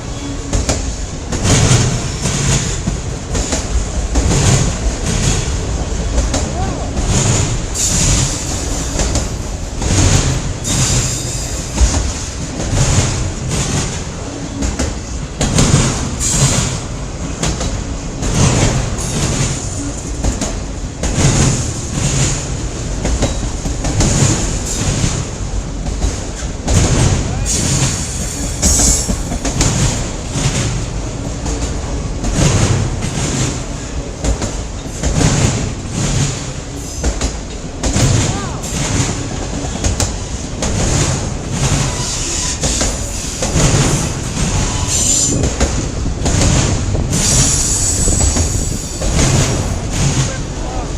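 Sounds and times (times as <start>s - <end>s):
train wheels clattering over rail joints: 0.0s - 50.9s.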